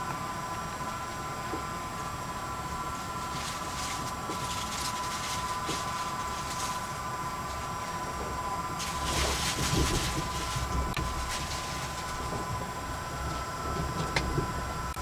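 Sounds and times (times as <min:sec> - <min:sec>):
high whine of train: 0:00.0 - 0:15.0
train rumble inside carriage: 0:00.0 - 0:15.0.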